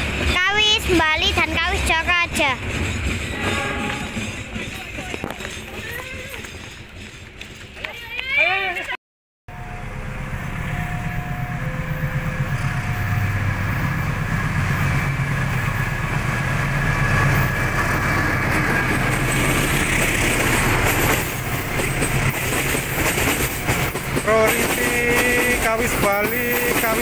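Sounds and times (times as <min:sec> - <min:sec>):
train wheels rolling and hissing: 0:00.0 - 0:08.1, 0:10.1 - 0:27.0
diesel locomotive engine rumble: 0:00.0 - 0:08.4, 0:09.5 - 0:27.0.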